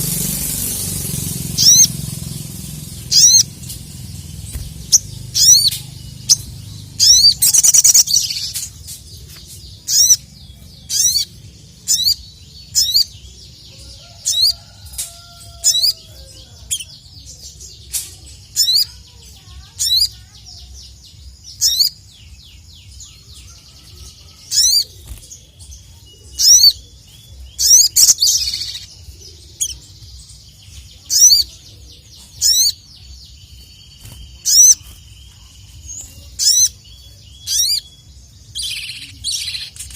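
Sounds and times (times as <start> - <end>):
bird chirping: 0.0 - 39.9
rapid bird twittering: 0.0 - 39.9.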